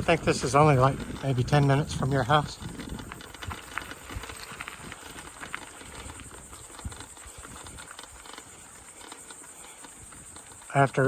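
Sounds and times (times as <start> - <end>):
bicycle clicks and rattles: 0.0 - 11.0
bicycle tyres crunching on grit: 0.0 - 11.0.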